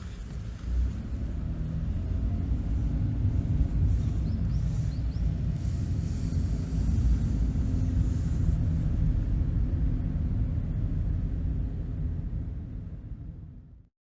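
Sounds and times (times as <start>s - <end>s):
low steady rumbling: 0.0s - 13.9s.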